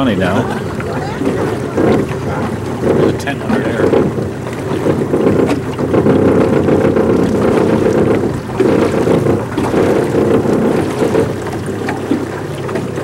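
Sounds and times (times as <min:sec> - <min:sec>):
boat motor droning: 0:00.0 - 0:13.0
wind buffeting microphone: 0:00.0 - 0:13.0.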